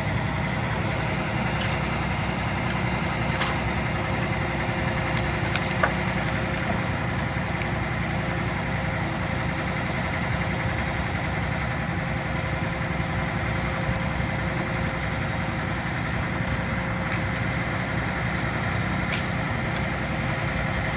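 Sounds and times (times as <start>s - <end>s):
diesel truck engine running: 0.0s - 20.9s.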